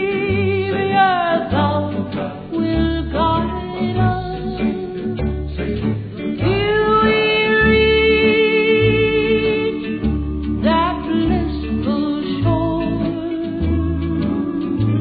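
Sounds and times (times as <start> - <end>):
alternating bass line: 0.0 - 15.0
guitar: 0.0 - 15.0.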